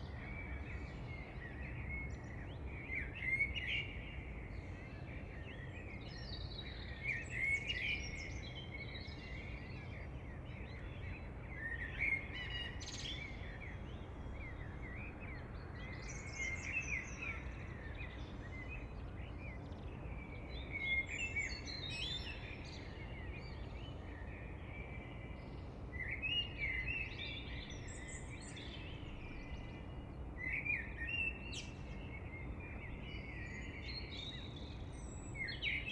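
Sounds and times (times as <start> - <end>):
bird chirping: 0.0 - 35.9.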